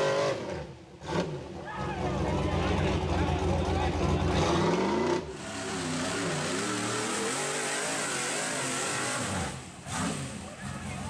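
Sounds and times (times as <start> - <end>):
engine revving hard: 2.1 - 11.0.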